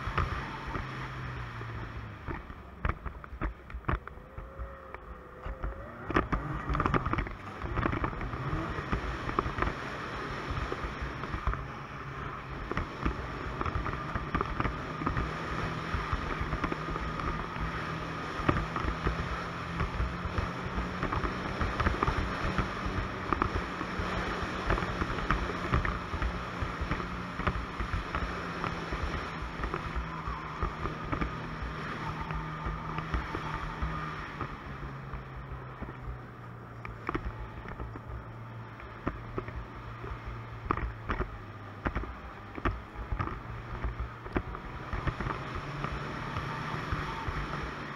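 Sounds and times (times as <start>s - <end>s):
snowmobile engine running: 0.0s - 47.9s
snowmobile track noise: 0.0s - 47.9s.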